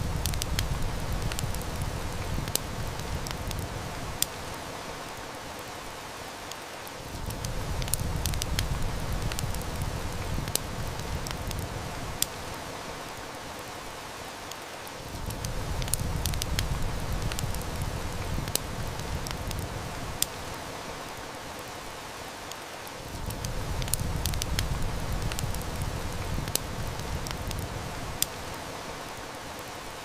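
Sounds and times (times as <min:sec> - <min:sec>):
heavy rain: 0:00.0 - 0:30.0
wood fire crackling: 0:00.0 - 0:30.0.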